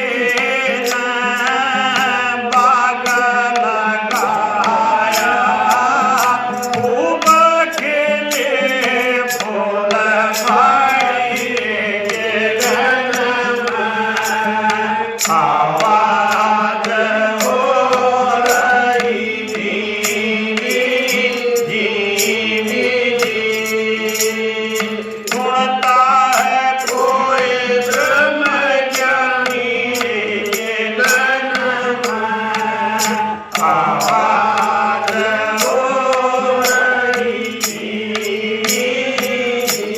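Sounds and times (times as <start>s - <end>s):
percussion clicks: 0.0s - 39.9s
person singing: 0.0s - 39.9s.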